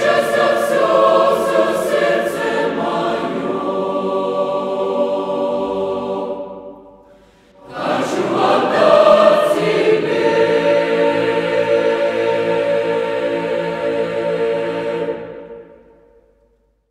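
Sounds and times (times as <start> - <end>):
mixed choir singing: 0.0 - 16.2.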